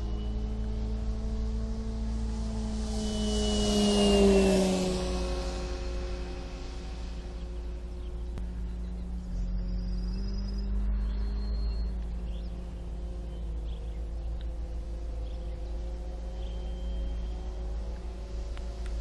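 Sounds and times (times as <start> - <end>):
electric motor and propeller droning: 0.0 - 19.0
wind rumble on microphone: 0.0 - 19.0.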